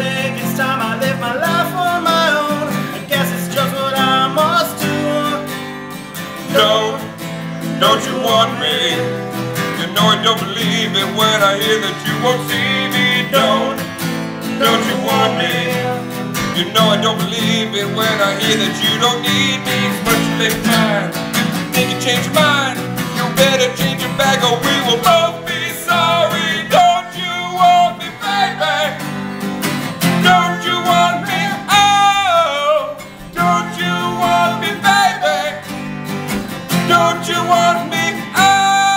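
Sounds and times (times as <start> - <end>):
men singing: 0.0 - 5.6, 6.4 - 35.8, 36.4 - 38.9
acoustic guitars strummed: 0.0 - 38.9.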